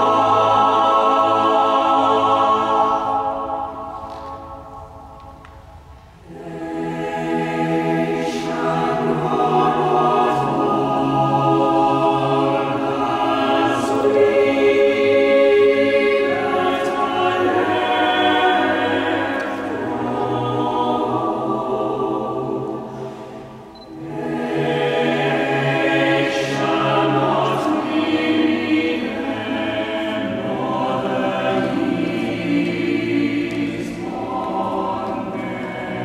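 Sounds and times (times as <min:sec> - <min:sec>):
choir singing in echoing hall: 0:00.0 - 0:36.0.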